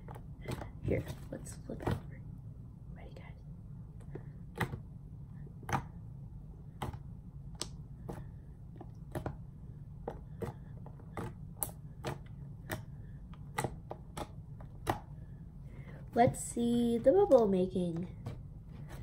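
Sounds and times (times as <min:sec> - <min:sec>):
air conditioner hum: 0:00.0 - 0:19.0.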